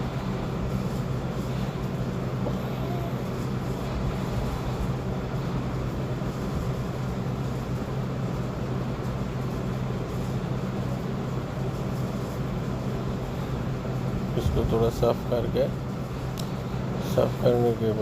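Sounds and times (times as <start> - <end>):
electric blower fan whirring: 0.0 - 18.0.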